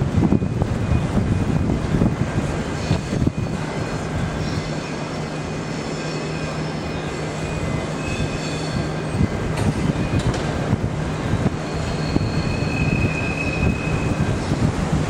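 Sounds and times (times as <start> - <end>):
train diesel drone: 0.0 - 15.0.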